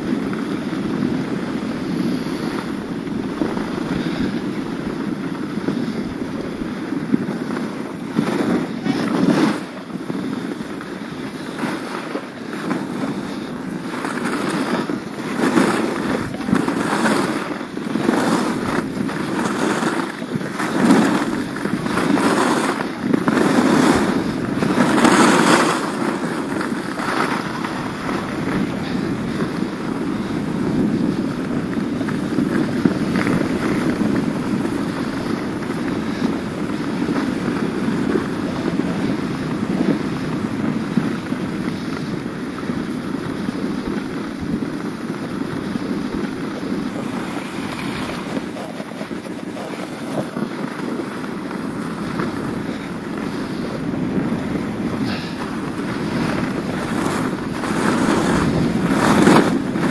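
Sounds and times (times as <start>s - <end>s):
skis scraping over snow: 0.0s - 59.9s
wind on microphone: 0.0s - 59.9s.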